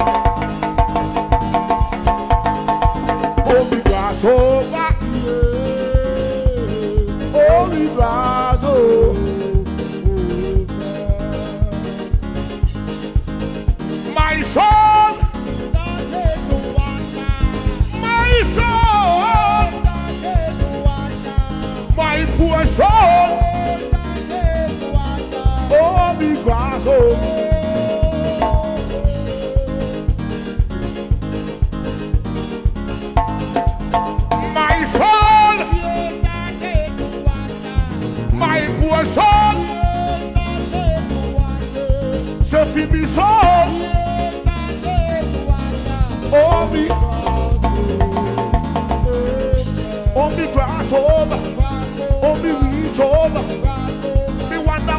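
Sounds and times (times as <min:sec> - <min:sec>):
person singing: 0:00.0 - 0:12.9, 0:13.6 - 0:30.6, 0:33.4 - 0:54.9
bending sliding melody line: 0:00.0 - 0:54.9
drums and cymbals beat: 0:00.0 - 0:54.9
keyboard: 0:00.0 - 0:54.9
live band playing: 0:00.0 - 0:54.9.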